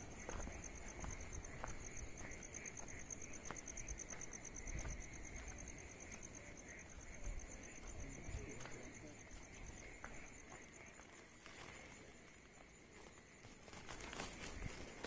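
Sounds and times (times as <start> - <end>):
footsteps on wet ground: 0.0 - 15.0
insects trilling: 0.0 - 15.0
lower insect chirping: 0.0 - 15.0.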